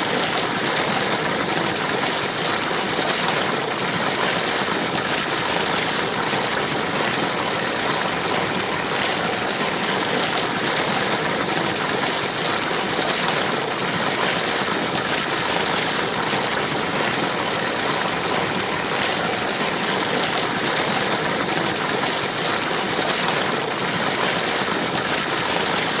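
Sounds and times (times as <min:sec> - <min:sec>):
stream water flowing over rocks: 0:00.0 - 0:26.0.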